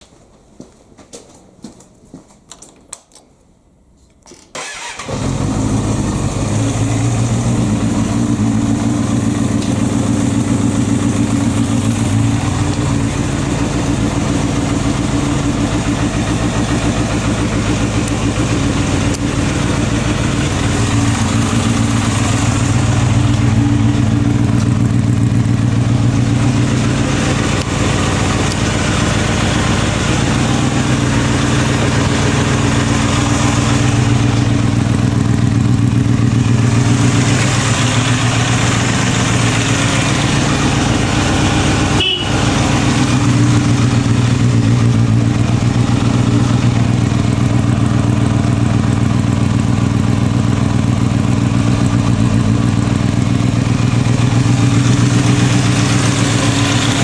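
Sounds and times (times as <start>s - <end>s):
motorcycle engine starting and idling: 4.3s - 57.0s.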